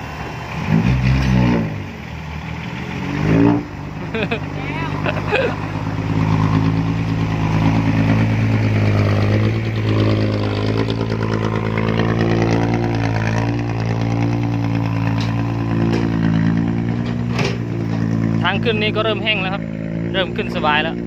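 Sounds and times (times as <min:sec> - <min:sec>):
dump truck diesel engine: 0:00.0 - 0:21.0
excavator engine running: 0:00.0 - 0:21.0.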